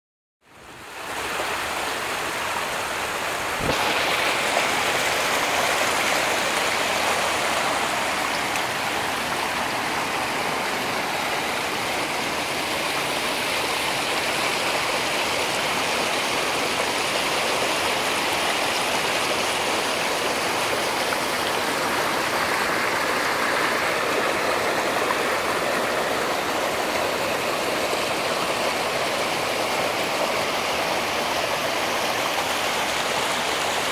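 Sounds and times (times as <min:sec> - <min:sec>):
stream flowing over rocks: 0:00.4 - 0:33.9.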